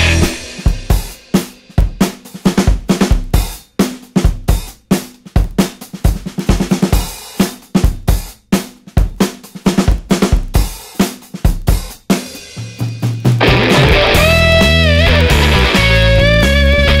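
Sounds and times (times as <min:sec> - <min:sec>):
rock drum beat: 0:00.0 - 0:17.0.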